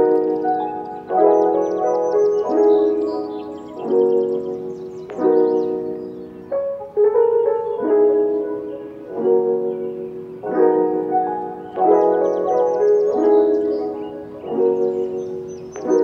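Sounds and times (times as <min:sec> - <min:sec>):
keyboard chords background music: 0:00.0 - 0:16.0.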